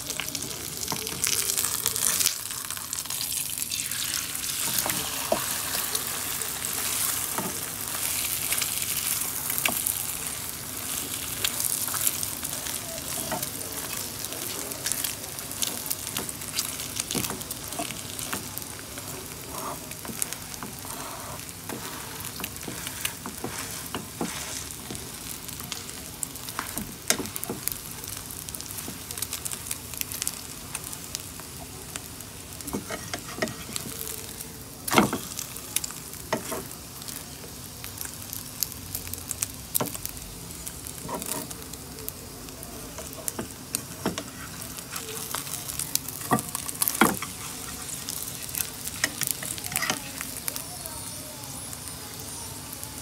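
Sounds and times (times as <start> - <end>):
food sizzling in a frying pan: 0.0 - 53.0.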